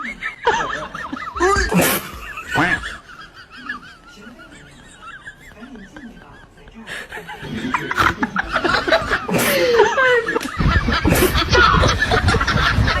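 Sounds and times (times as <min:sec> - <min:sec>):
person snickering and chuckling: 0:00.0 - 0:06.2, 0:06.9 - 0:13.0.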